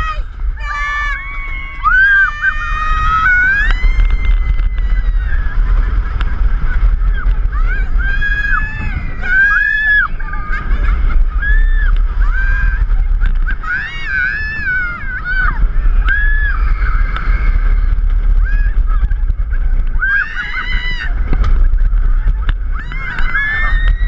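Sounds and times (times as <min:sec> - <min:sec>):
roller coaster riders screaming: 0:00.0 - 0:24.0
wind rushing on microphone: 0:00.0 - 0:24.0.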